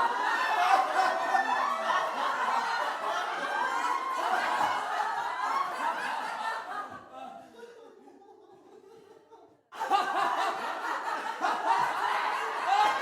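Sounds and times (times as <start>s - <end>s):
people laughing: 0.0s - 13.0s.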